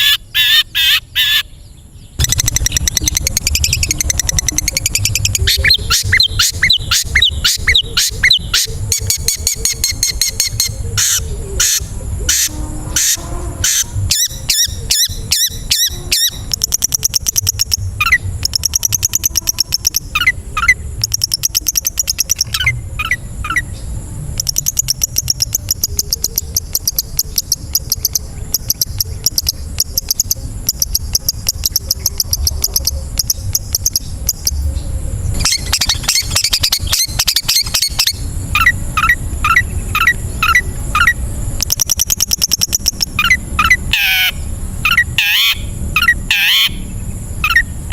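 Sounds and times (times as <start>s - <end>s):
shrike song rattling and whistling: 0.0s - 47.9s.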